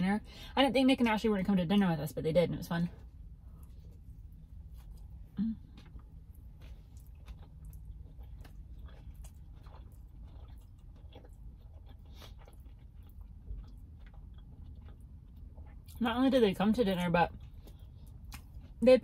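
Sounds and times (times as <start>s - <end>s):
low steady hum: 0.0s - 19.0s
chewing crunchy food: 3.5s - 18.8s.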